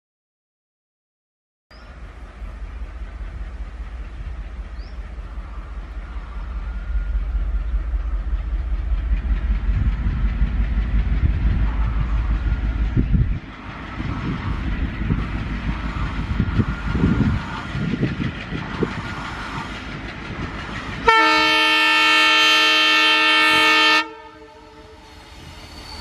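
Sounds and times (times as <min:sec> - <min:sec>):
diesel locomotive engine chugging: 0:01.7 - 0:26.0.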